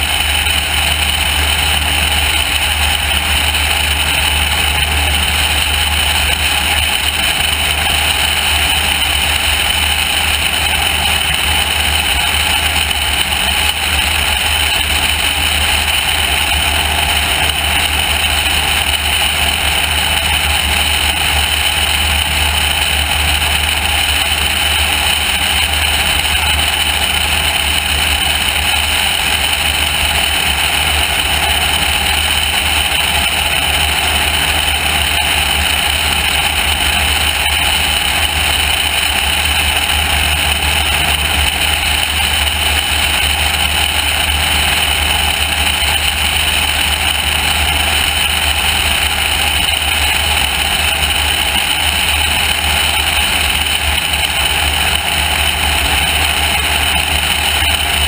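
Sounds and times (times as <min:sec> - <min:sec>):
airplane piston engine drone: 0:00.0 - 0:58.0.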